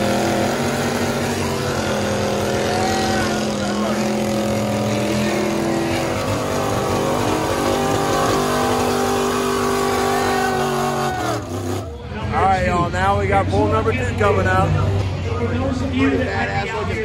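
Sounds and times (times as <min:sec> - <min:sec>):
truck engines revving under load: 0:00.0 - 0:17.0.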